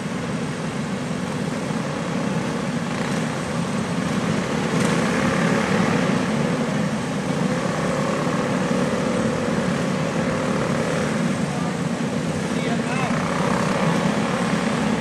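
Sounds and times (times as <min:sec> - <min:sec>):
small race car engines droning: 0:00.0 - 0:15.0.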